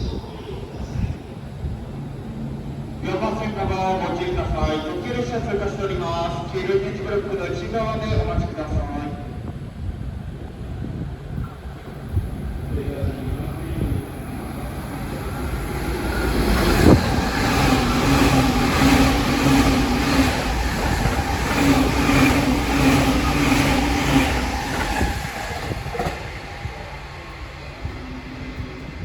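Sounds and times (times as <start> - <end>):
train wheels rushing on rail: 0.9 - 29.0.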